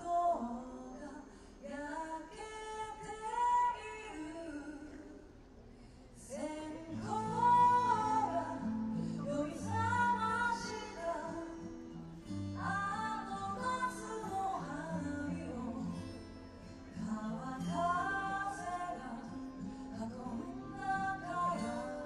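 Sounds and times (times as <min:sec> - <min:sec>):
woman singing: 0:00.0 - 0:05.3, 0:06.2 - 0:22.0.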